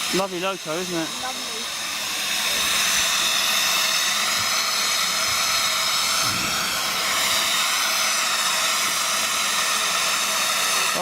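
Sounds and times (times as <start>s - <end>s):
steam locomotive letting off steam: 0.0s - 11.0s.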